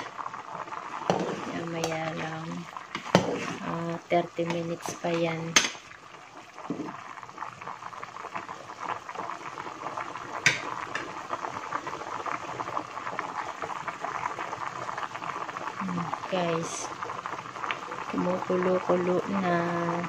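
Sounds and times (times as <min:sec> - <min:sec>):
soup bubbling at a boil: 0:00.0 - 0:20.0.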